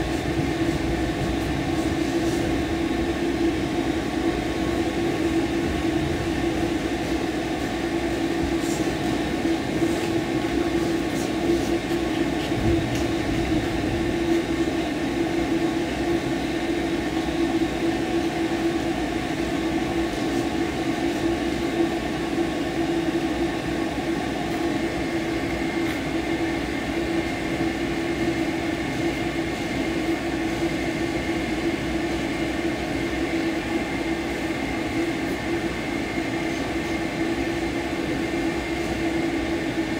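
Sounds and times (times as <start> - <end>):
blow dryer running: 0.0 - 39.9.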